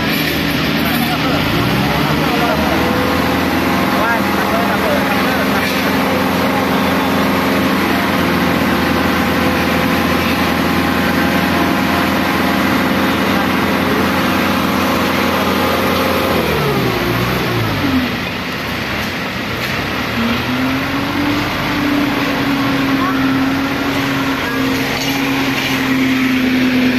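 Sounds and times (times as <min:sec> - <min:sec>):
engine running and slowing: 0:00.0 - 0:26.9.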